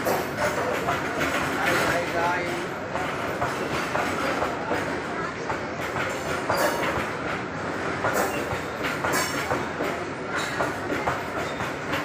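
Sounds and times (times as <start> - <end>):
freight train rumbling: 0.0 - 12.0
wheel clacks on rail joints: 0.0 - 12.0.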